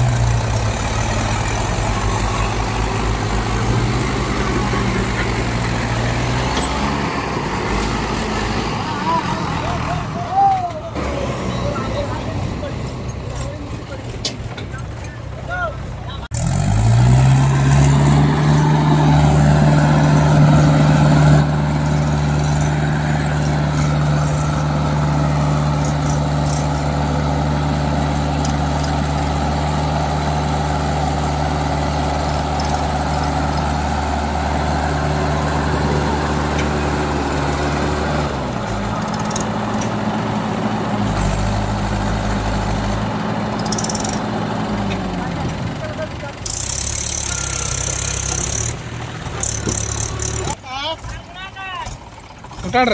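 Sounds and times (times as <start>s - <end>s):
tractor diesel engine revving: 0.0s - 52.9s.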